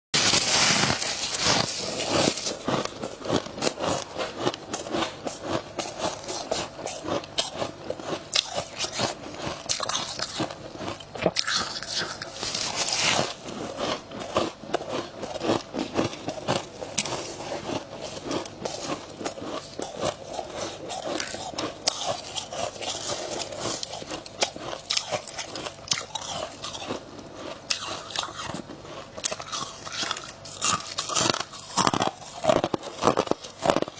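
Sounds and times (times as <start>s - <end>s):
crunching and chewing frost: 0.2s - 33.9s.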